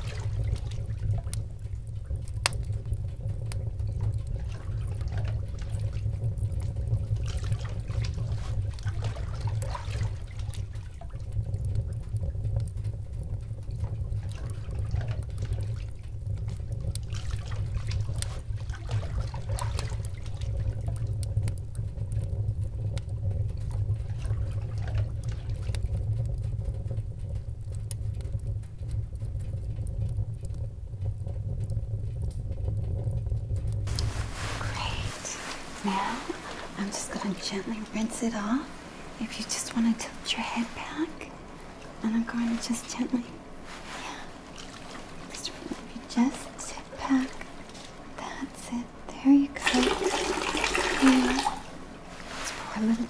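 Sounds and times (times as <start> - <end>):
water splashing in a basin: 0.0 - 26.7, 33.8 - 53.0
steady low rumble: 0.0 - 53.0.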